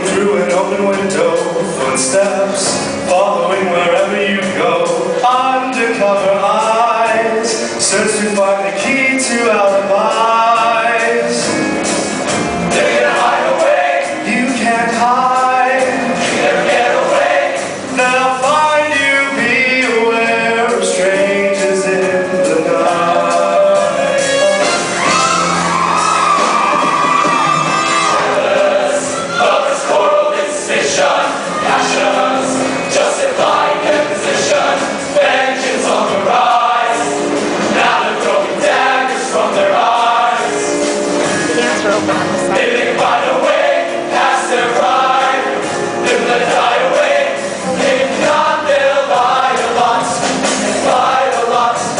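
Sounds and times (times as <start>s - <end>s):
choir singing with accompaniment: 0.0s - 51.9s.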